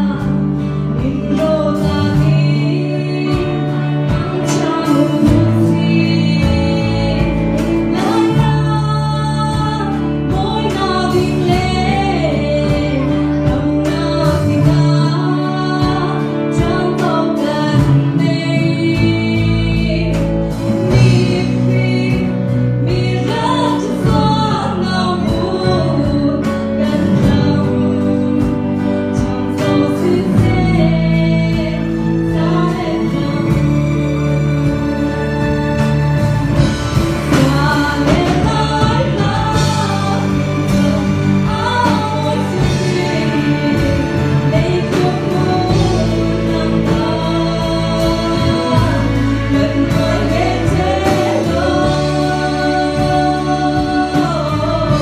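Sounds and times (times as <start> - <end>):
live band with guitars: 0.0 - 55.0
woman singing into a microphone: 0.0 - 55.0.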